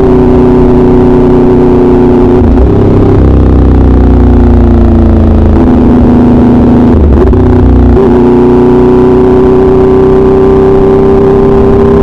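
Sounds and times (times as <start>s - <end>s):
motorcycle engine running loud: 0.0s - 12.0s.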